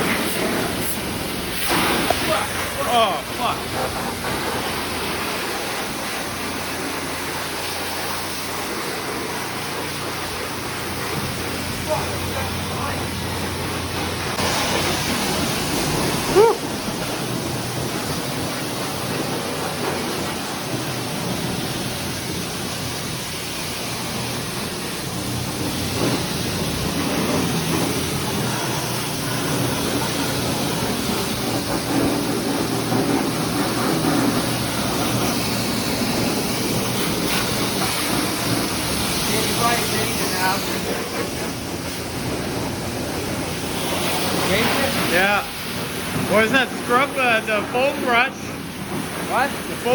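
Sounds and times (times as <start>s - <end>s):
pressure washer spraying water: 0.0s - 49.9s.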